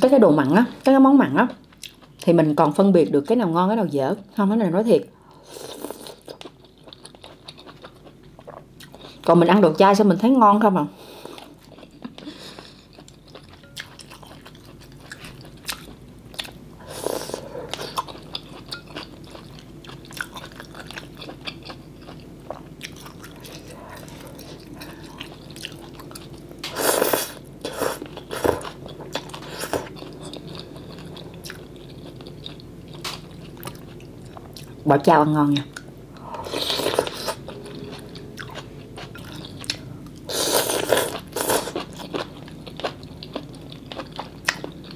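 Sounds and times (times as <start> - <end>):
person chewing and eating: 1.7 - 2.2, 5.3 - 9.3, 11.1 - 34.8, 35.7 - 44.9.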